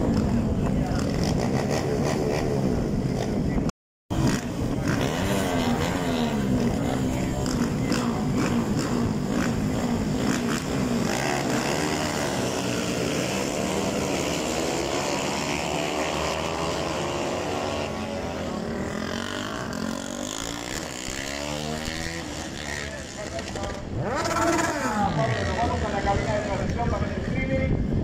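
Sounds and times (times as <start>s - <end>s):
motorcycles revving and accelerating: 0.0s - 27.4s.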